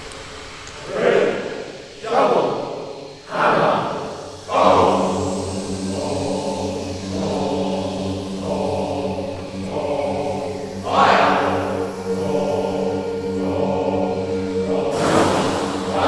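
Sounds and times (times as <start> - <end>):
loud breathy hiss: 0.0 - 16.0
male choir wordless drone: 0.8 - 16.0.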